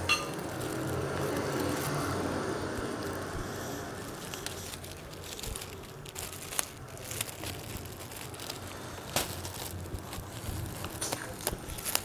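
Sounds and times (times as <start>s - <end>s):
distant traffic: 0.0s - 12.0s.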